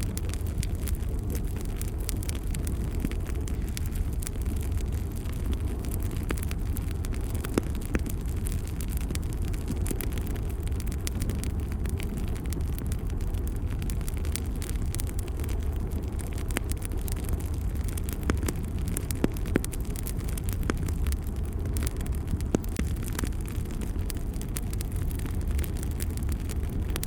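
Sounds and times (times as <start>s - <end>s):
fire crackling and popping: 0.0s - 27.0s
wood fire rumbling: 0.0s - 27.0s.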